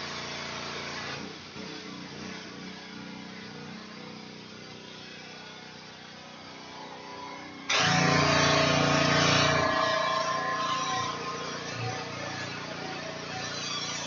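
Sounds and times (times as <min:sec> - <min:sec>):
pressure washer engine hum: 0:00.0 - 0:14.0.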